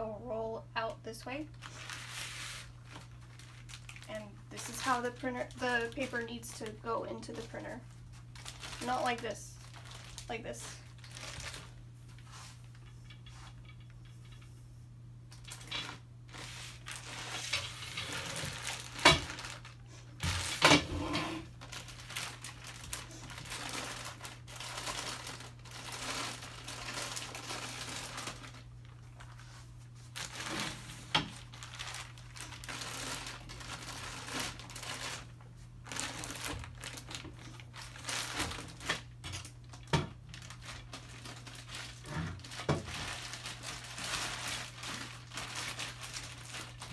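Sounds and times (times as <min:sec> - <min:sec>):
plastic wrapping crinkling: 0:01.3 - 0:14.4, 0:15.3 - 0:20.8, 0:21.4 - 0:46.9.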